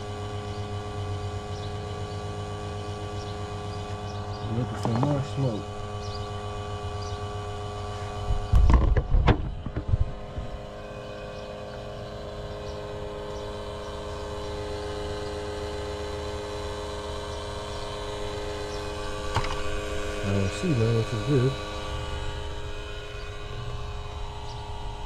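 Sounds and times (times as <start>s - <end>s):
smoke machine humming: 0.0s - 25.0s.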